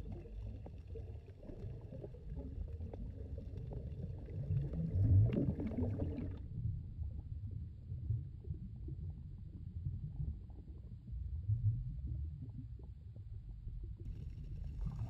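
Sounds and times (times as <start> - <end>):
low underwater rumble: 0.0 - 15.0.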